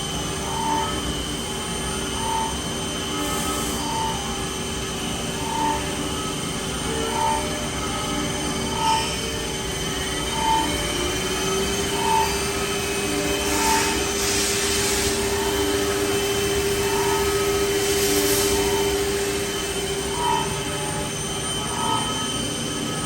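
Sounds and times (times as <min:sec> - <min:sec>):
machine whine: 0:00.0 - 0:23.0.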